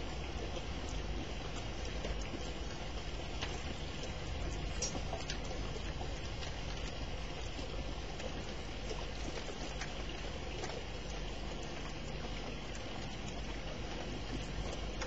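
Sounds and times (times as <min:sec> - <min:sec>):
sharp ticks of raindrops: 0:00.0 - 0:15.0
steady rain hiss: 0:00.0 - 0:15.0.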